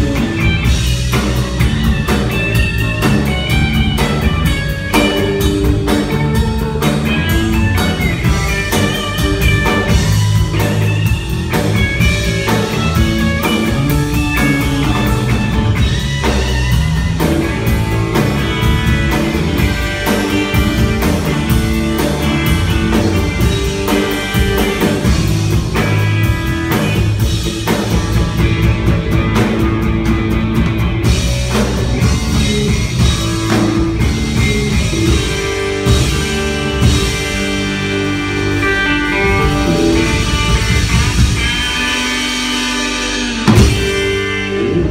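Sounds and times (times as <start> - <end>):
rock band playing live: 0.0 - 44.9.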